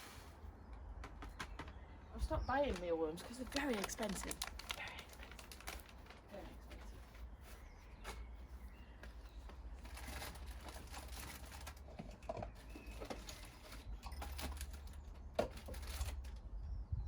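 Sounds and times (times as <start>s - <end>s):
packaging rustling and crinkling: 2.6s - 16.4s.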